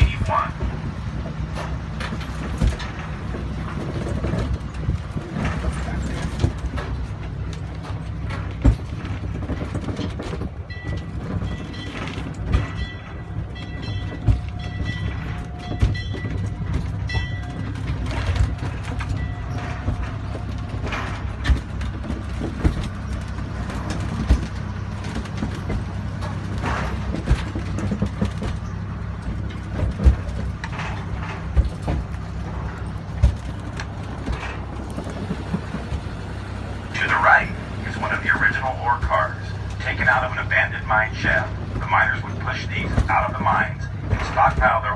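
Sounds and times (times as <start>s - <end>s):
train rumbling on track: 0.0s - 44.9s
wheels knocking and rattling: 0.0s - 44.9s.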